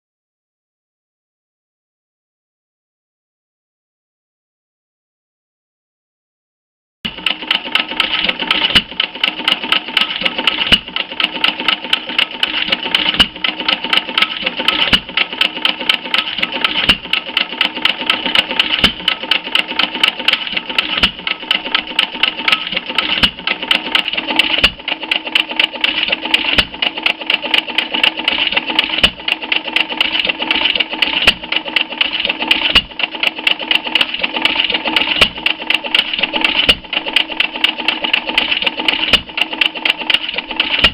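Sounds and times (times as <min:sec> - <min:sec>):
stationary gas engine running: 0:07.1 - 0:40.9.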